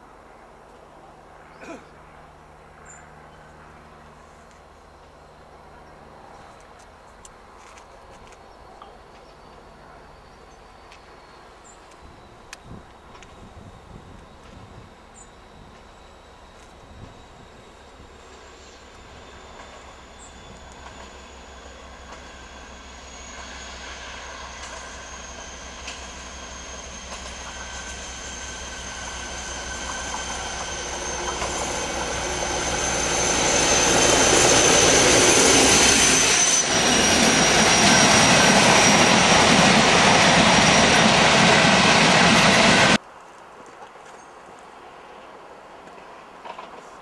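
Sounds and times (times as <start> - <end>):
diesel locomotive passing: 0.0 - 43.0.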